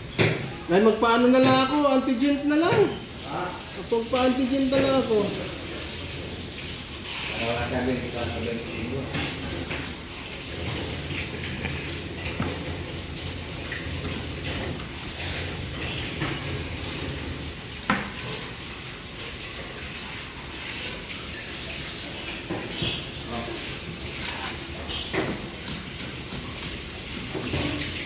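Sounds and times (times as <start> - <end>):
rushing kitchen noise: 0.0 - 28.0.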